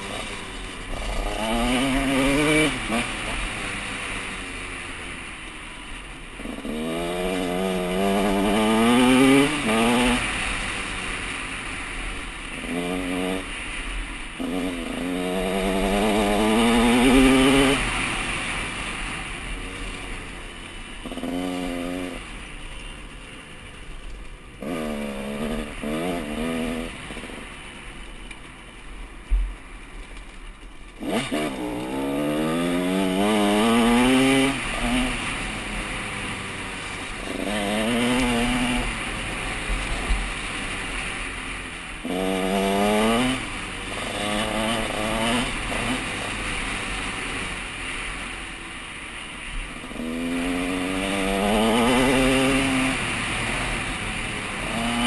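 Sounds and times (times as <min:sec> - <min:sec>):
dirt bike engine revving: 0:00.0 - 0:28.6, 0:30.9 - 0:55.0.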